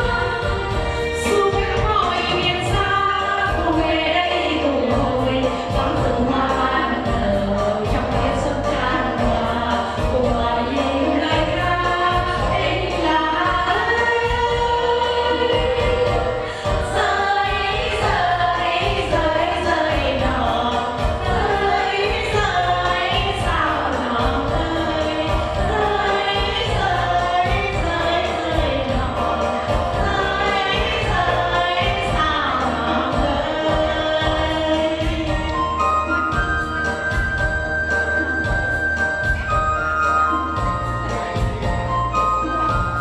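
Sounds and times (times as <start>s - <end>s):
backing music with steady beat: 0.0s - 43.0s
women singing into microphones: 0.0s - 43.0s.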